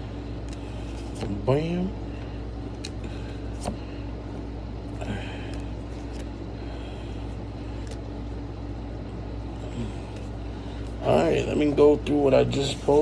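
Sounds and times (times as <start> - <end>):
faint constant tone: 0.0 - 13.0
steady low hum: 0.0 - 13.0.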